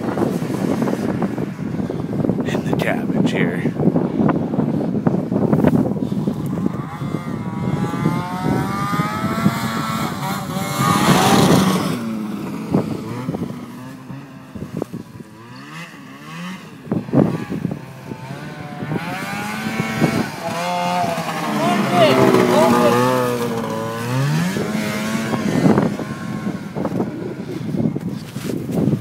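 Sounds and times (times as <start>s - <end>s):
snowmobile engine revving by: 0.0s - 1.8s, 5.5s - 28.6s.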